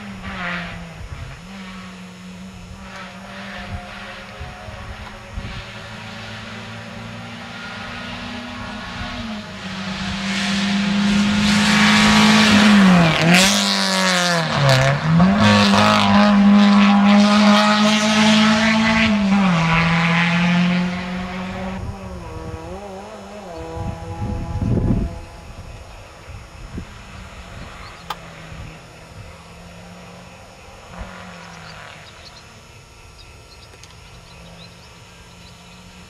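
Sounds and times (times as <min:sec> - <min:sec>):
rally car engine passing: 0:00.0 - 0:36.0.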